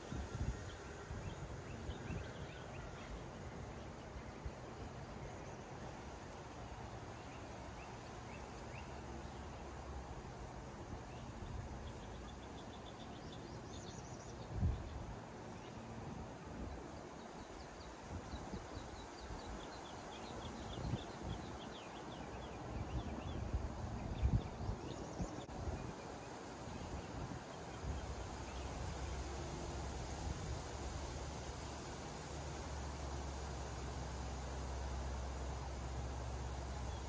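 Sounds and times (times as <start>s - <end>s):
songbirds chirping: 0.0s - 37.0s
steady outdoor hush: 0.0s - 37.0s.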